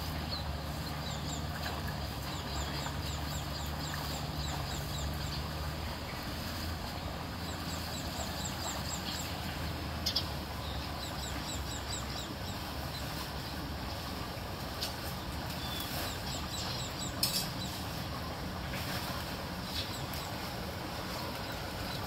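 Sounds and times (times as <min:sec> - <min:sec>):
floodwater draining into culvert: 0:00.0 - 0:22.0.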